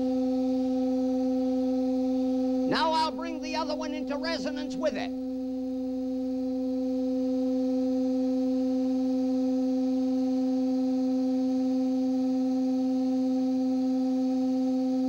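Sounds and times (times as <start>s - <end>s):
organ pipes sounding steady tone: 0.0s - 15.0s.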